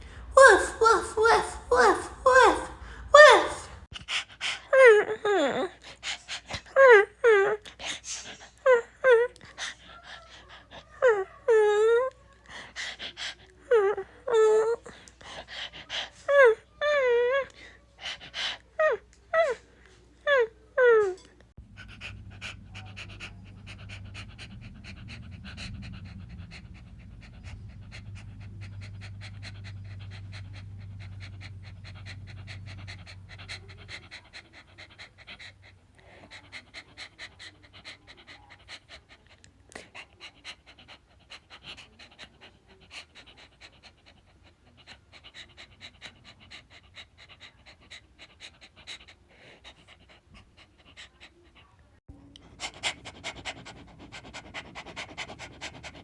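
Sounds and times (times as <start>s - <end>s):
dog panting: 0.4s - 16.6s, 17.4s - 19.5s, 21.6s - 56.0s.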